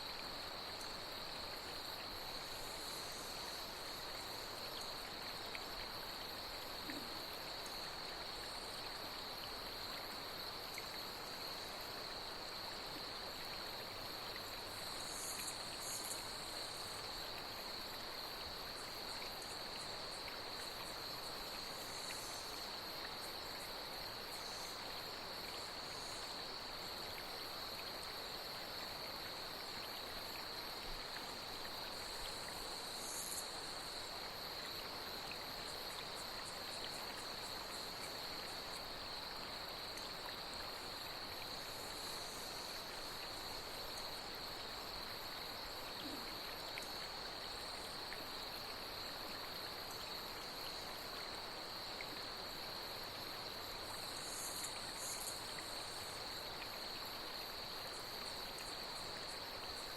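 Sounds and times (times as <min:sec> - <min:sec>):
flowing water hiss: 0:00.0 - 0:59.9
night insects trilling: 0:00.0 - 0:59.9.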